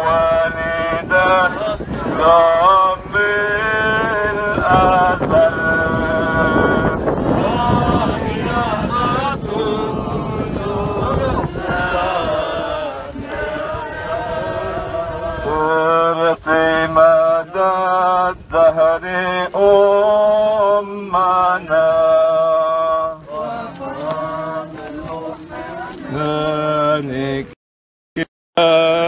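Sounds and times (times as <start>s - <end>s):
man chanting a hymn: 0.0s - 27.6s, 28.6s - 29.0s.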